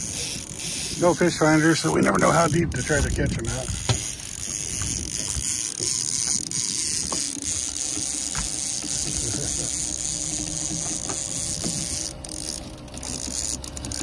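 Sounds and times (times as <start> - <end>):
fishing reel clicking and whirring: 0.0 - 14.0.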